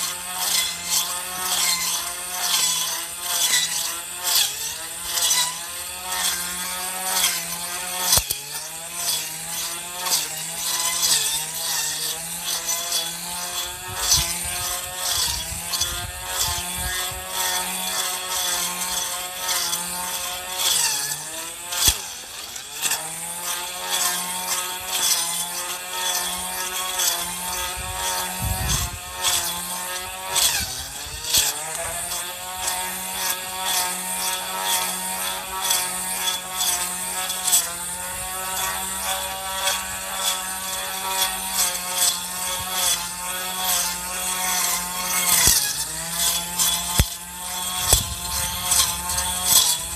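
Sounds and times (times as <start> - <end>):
blade ticking on stems: 0.0 - 49.9
grass trimmer motor whine: 0.0 - 49.9.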